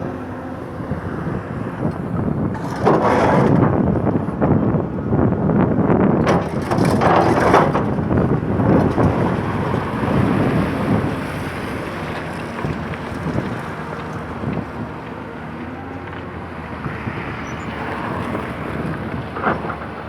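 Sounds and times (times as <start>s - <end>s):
excavator engine rumble: 0.0s - 20.0s
crunching and scraping of rubble: 1.3s - 4.2s, 6.0s - 20.0s.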